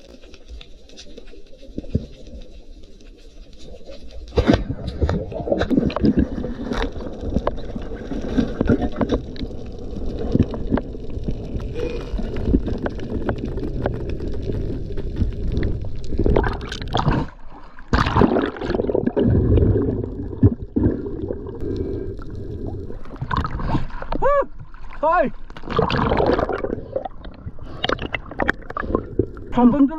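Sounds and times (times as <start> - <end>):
water rushing and gurgling: 4.4 - 29.9.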